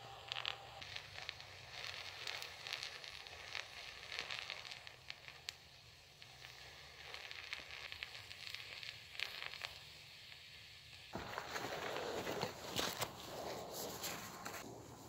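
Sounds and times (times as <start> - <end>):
black powder burning hissing crackle: 0.0 - 15.0.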